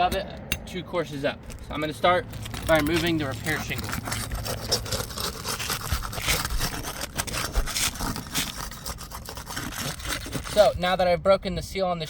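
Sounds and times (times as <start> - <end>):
tool scraping roof shingle: 1.4 - 11.3.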